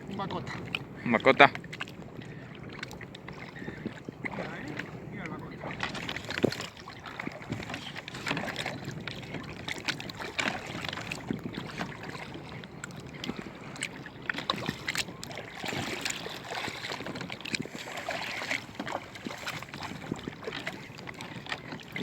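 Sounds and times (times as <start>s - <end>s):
water splashing: 0.0s - 22.0s
wind on microphone: 0.0s - 22.0s.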